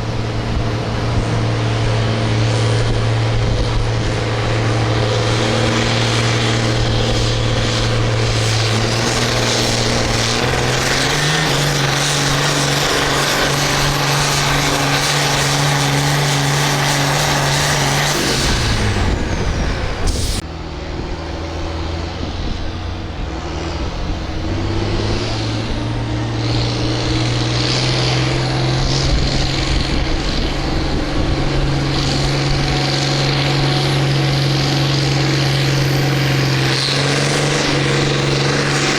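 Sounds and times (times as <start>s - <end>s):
tractor engine at full throttle: 0.0s - 38.9s.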